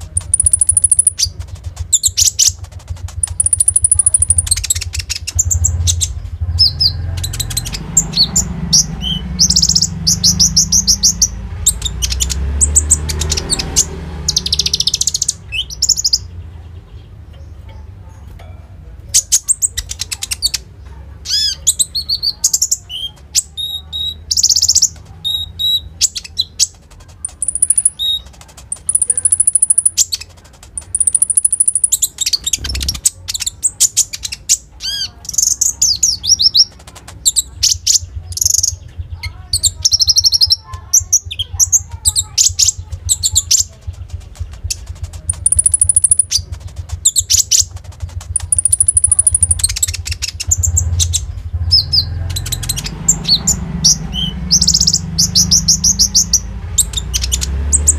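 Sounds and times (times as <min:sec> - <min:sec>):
songbird chirping and trilling: 0:00.0 - 0:57.9.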